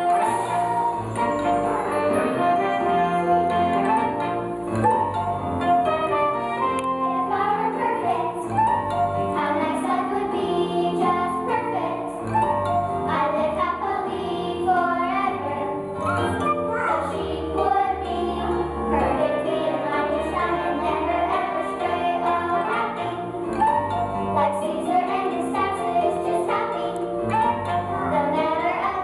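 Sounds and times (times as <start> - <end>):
instrumental accompaniment: 0.0 - 29.0.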